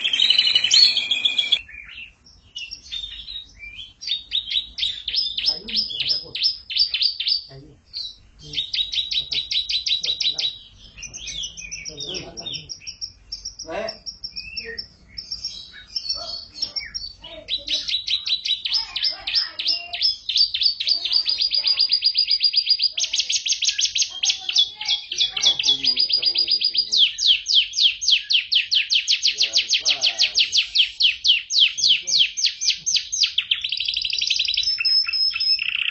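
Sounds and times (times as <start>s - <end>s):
canary singing trills: 0.0s - 35.9s
canary whistles and chatter: 0.0s - 35.9s.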